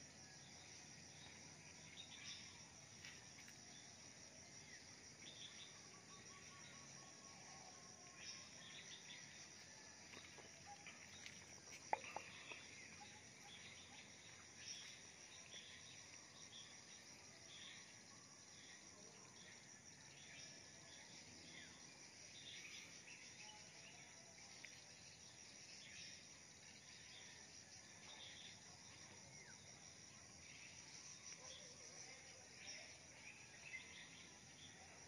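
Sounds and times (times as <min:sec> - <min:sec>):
high pulsing insect trill: 0:00.0 - 0:35.0.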